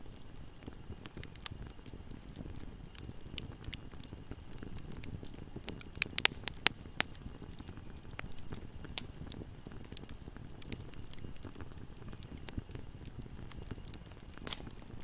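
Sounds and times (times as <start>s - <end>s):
bonfire flames rumbling: 0.0s - 15.0s
fire crackles: 0.0s - 15.0s.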